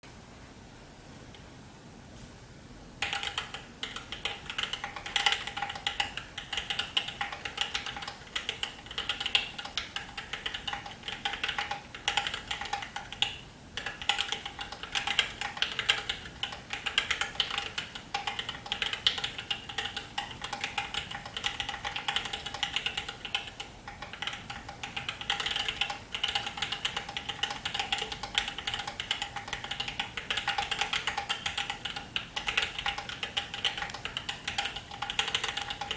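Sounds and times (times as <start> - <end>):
fast mechanical keyboard typing: 3.0 - 35.9.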